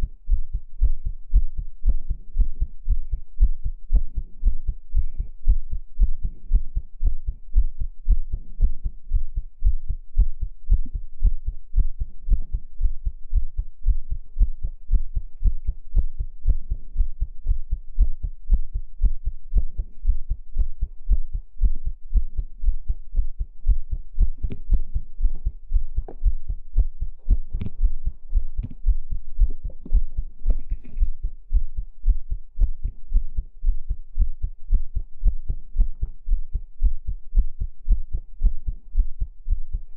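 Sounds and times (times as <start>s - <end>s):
heartbeat thumping: 0.0s - 39.9s.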